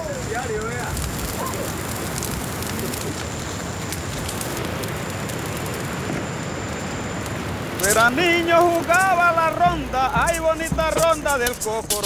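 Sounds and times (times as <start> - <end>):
bonfire crackling and popping: 0.0 - 12.0
fire rushing noise: 0.0 - 12.0.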